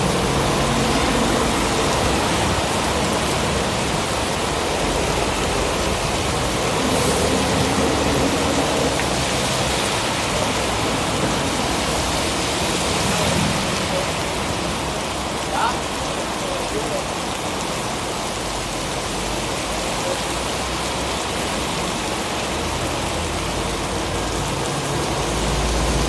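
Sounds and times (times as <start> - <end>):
heavy wind-driven rain: 0.0 - 26.0.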